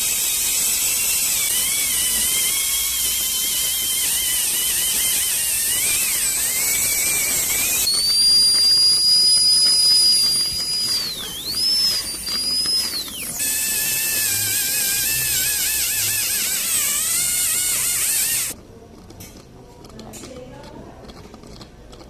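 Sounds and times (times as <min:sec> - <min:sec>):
dental drill whining: 0:00.0 - 0:18.6.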